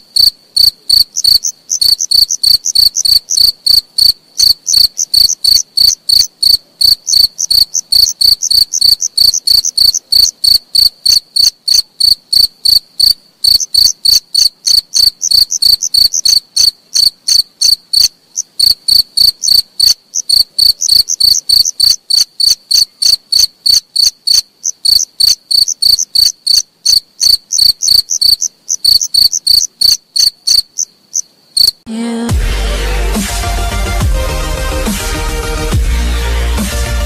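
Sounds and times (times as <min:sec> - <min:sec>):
insect chirping: 0:00.0 - 0:31.9.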